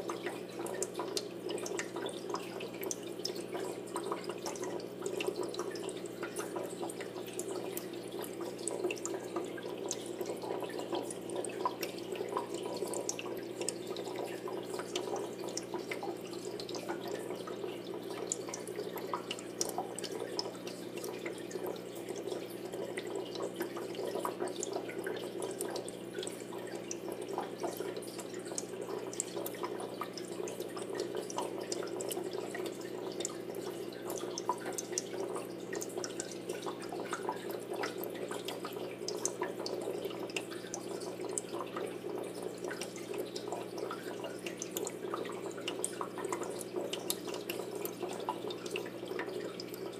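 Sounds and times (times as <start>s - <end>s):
aquarium water trickling and dripping: 0.0s - 49.9s.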